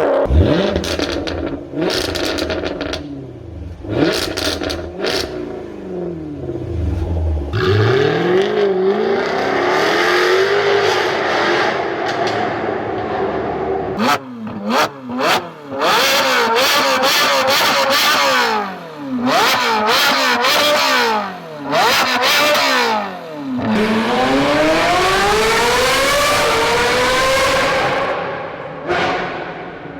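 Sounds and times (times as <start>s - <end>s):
car accelerating hard: 0.0s - 29.9s
car engine revving: 0.0s - 29.9s.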